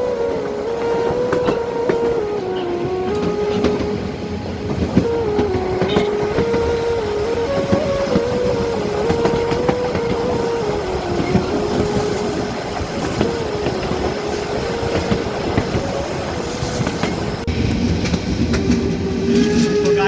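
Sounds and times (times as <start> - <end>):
sustained tone: 0.0 - 20.0
train rolling rumble: 0.0 - 20.0
wheels clacking over rail joints: 0.0 - 20.0.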